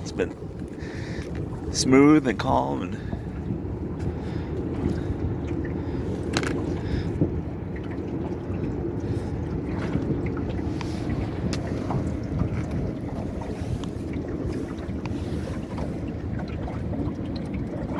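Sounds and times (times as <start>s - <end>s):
outboard motor running: 0.0s - 17.9s.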